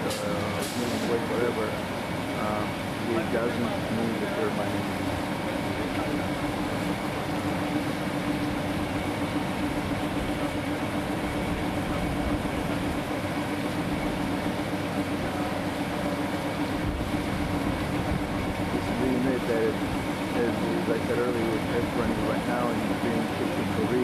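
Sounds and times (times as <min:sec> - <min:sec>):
machinery drone with low hum: 0:00.0 - 0:24.0.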